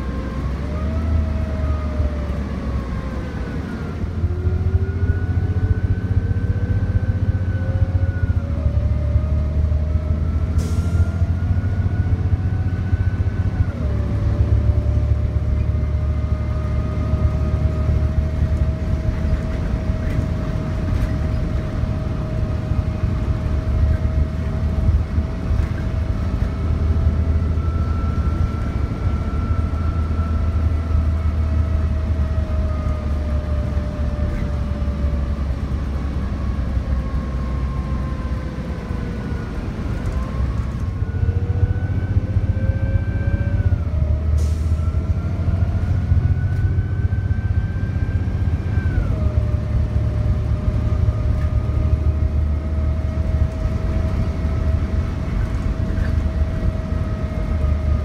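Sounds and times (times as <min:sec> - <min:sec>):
bus engine rumble and whine: 0:00.0 - 0:58.0.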